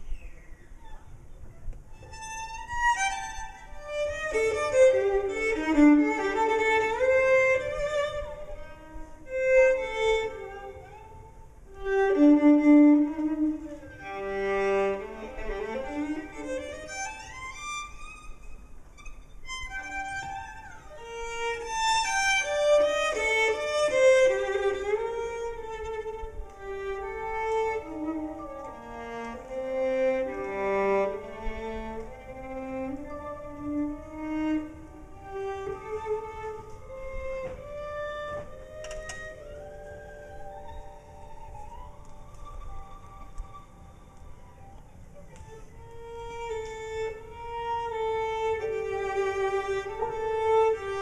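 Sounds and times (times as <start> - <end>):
violin melody with sliding notes: 2.0 - 51.0.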